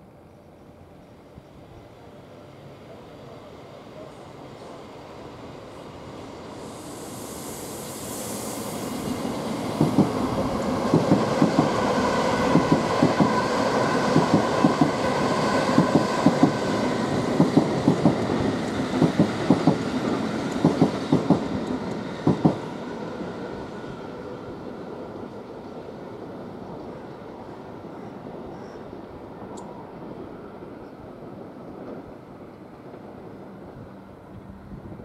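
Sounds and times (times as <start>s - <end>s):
faint train whine: 0.0s - 35.0s
train rumble: 0.6s - 35.0s.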